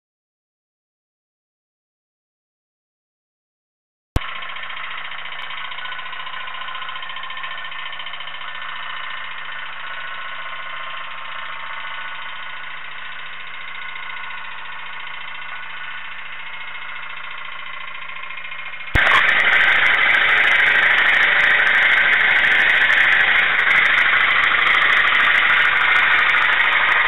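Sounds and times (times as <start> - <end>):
pop-pop boat boiler buzzing: 4.2 - 27.0.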